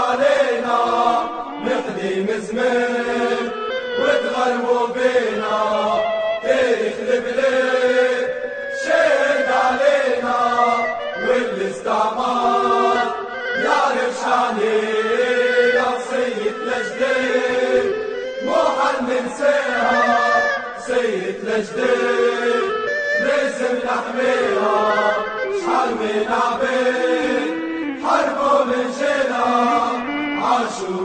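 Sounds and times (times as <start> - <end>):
crowd chanting: 0.0 - 31.0.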